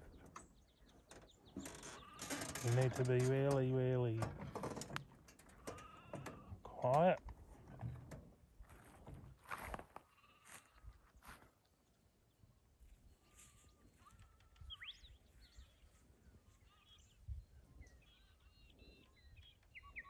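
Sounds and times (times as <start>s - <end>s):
faint birdsong: 0.0s - 8.2s, 10.0s - 20.0s.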